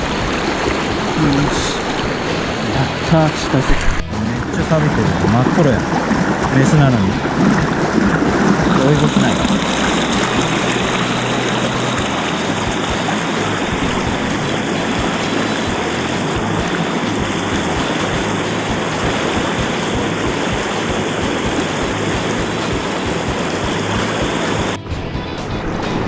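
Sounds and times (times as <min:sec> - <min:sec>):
river water rushing: 0:00.0 - 0:24.8
low rumble: 0:00.0 - 0:26.0.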